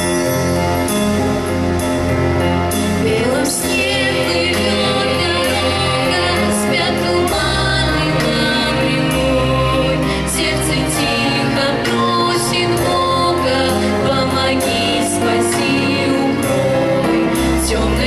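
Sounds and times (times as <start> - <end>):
instrumental accompaniment with bass: 0.0 - 18.0
children's group singing: 3.0 - 18.0.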